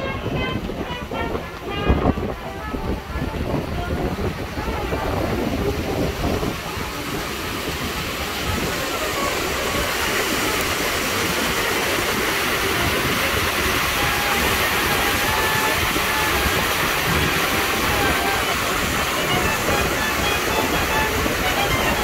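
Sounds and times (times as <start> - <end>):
paddlewheel churning water: 0.0 - 22.0.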